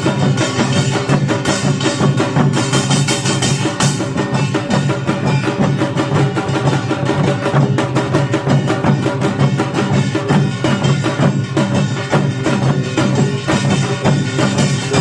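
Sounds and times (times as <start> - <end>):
percussion ensemble fast rhythm: 0.0 - 15.0.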